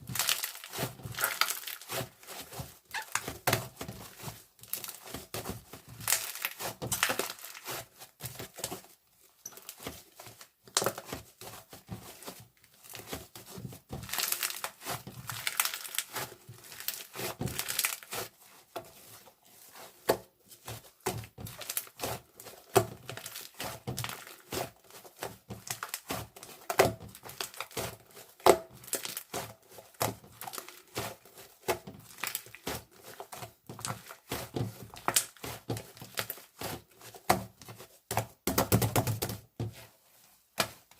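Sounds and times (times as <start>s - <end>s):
wrapping material crinkling: 0.0s - 38.1s.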